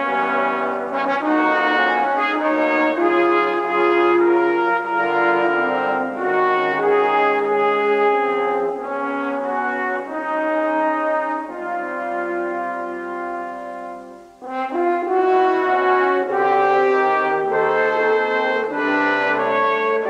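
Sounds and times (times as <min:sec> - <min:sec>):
slow orchestral brass music: 0:00.0 - 0:20.0.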